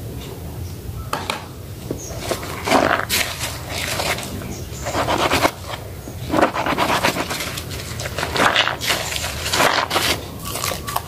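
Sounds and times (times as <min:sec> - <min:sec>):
wet soap and sponge squelching: 0:02.1 - 0:11.0.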